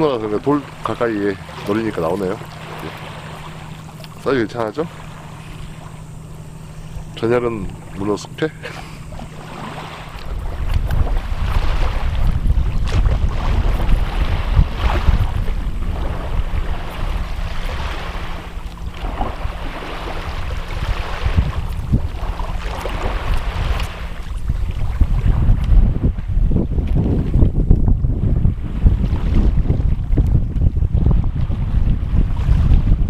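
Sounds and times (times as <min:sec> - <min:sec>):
seawater washing against breakwater: 0:00.0 - 0:33.0
wind buffeting microphone: 0:00.0 - 0:33.0.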